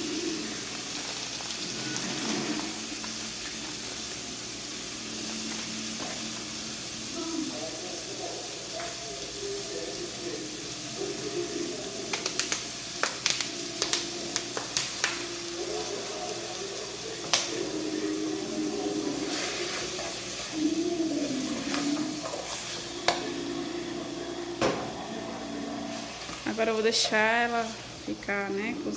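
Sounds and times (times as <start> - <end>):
meat frying with hiss: 0.0 - 28.9.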